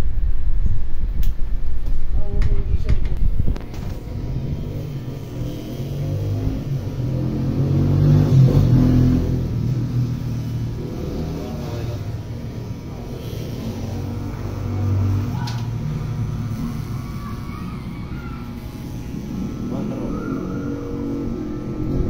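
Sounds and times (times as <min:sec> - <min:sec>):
electric hair clippers humming: 0:03.5 - 0:22.0.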